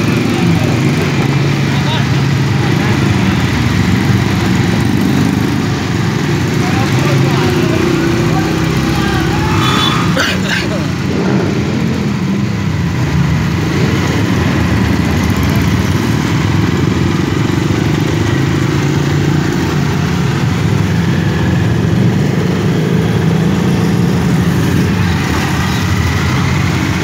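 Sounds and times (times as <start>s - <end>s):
motorcycle engines running: 0.0s - 27.0s.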